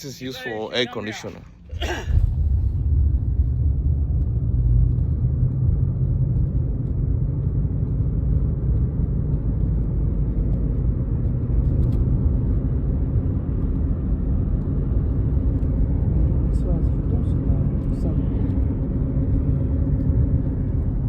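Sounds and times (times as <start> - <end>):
car interior road and engine noise: 0.0 - 21.0.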